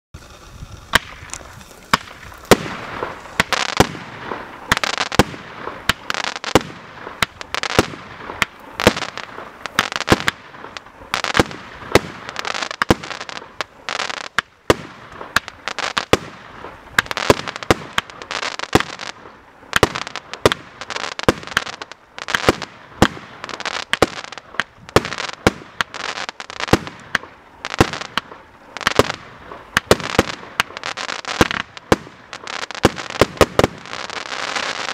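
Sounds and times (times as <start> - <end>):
firework bangs: 0.2 - 34.9
firework crackling: 0.2 - 34.9.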